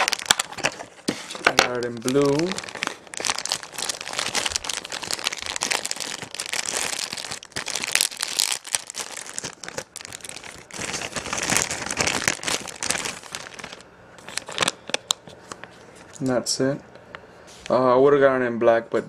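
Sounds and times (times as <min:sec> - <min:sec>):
plastic wrapping crinkling: 0:00.0 - 0:16.2.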